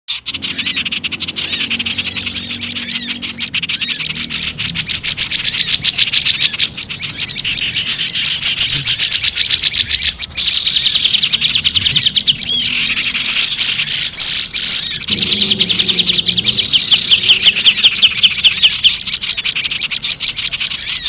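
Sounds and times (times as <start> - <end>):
small birds chirping chorus: 0.1 - 21.0
whistled bird notes: 0.1 - 21.0.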